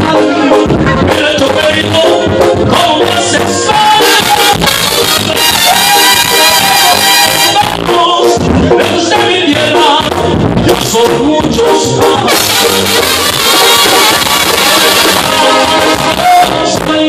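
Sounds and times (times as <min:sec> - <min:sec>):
live brass band music: 0:00.0 - 0:17.0
man singing into microphone: 0:00.0 - 0:17.0.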